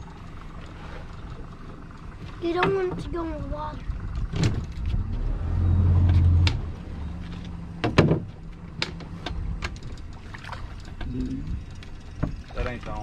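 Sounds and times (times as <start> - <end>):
knocks and clicks on boat: 0.0 - 13.0
low rumble: 0.0 - 13.0.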